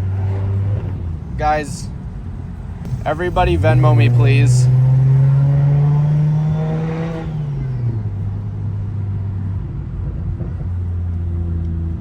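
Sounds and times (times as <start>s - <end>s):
car engine and exhaust: 0.0s - 12.0s.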